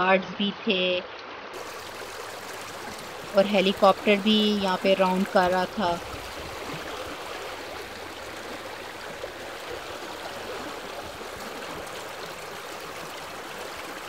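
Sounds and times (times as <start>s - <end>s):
small waves washing on sand: 1.5s - 14.0s.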